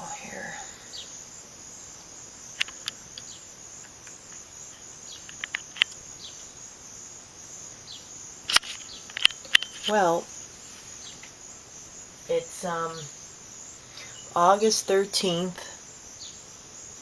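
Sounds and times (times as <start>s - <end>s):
insect chorus chirring: 0.0s - 17.0s.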